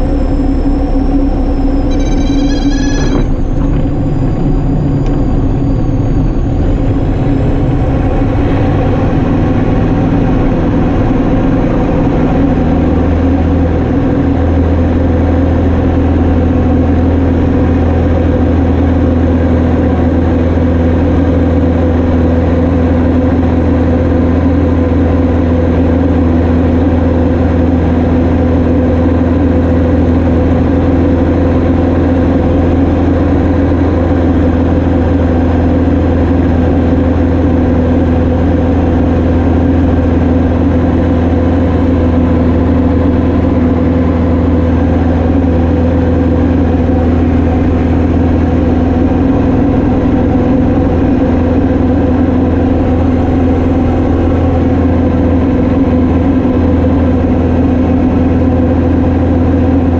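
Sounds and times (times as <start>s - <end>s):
propeller aircraft engine droning: 0.0s - 59.9s.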